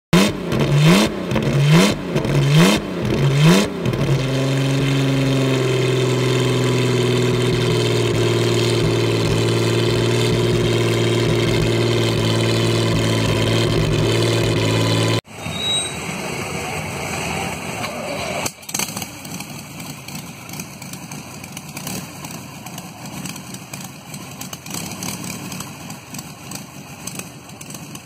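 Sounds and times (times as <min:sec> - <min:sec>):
aircraft engine revving and idling: 0:00.1 - 0:15.3, 0:16.1 - 0:28.0.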